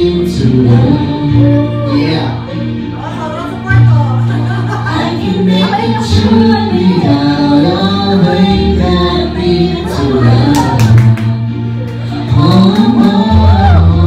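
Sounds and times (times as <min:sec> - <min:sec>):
people singing into microphones: 0:00.0 - 0:03.2, 0:04.4 - 0:14.0
amplified backing music: 0:00.0 - 0:14.0.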